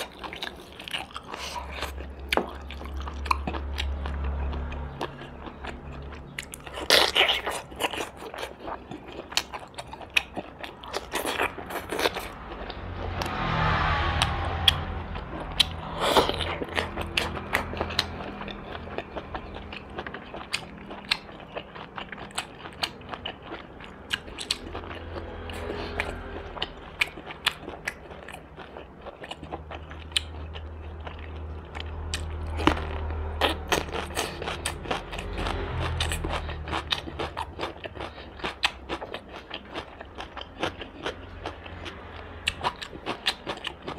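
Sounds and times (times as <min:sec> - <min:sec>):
chewing and crunching: 0:00.0 - 0:13.3, 0:15.4 - 0:43.9.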